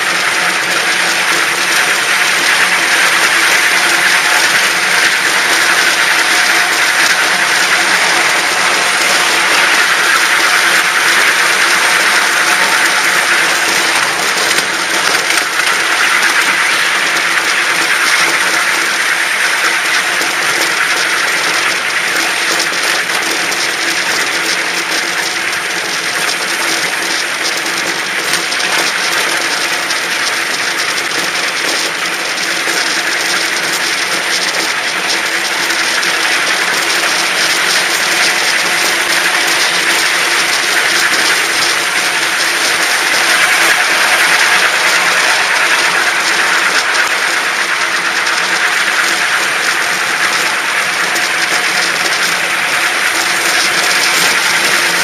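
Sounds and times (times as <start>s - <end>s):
train rolling on track: 0.0s - 55.0s.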